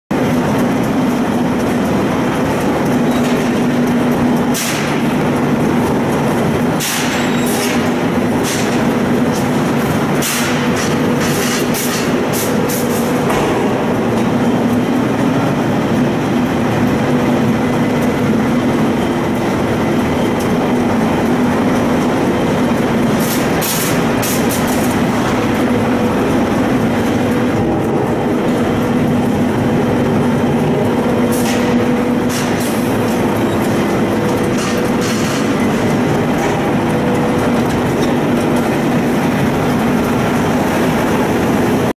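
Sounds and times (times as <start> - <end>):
machinery humming drone: 0.1 - 41.9.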